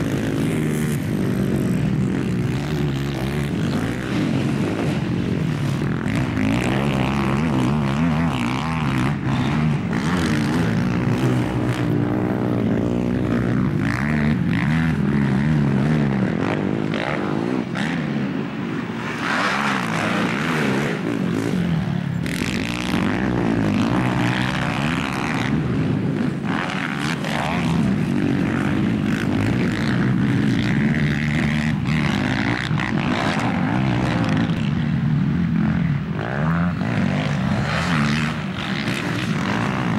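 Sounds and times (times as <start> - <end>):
quad bike engines revving: 0.0 - 39.9.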